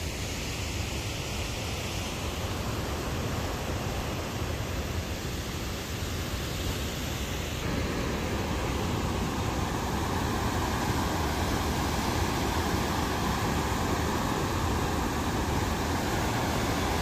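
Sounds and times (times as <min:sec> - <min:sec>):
water rushing through spillway: 0:00.0 - 0:17.0.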